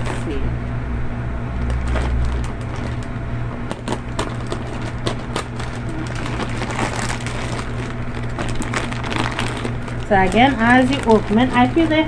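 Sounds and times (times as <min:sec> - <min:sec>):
plastic packaging crinkling: 0:00.0 - 0:00.4, 0:01.6 - 0:12.0
steady low hum: 0:00.0 - 0:12.0.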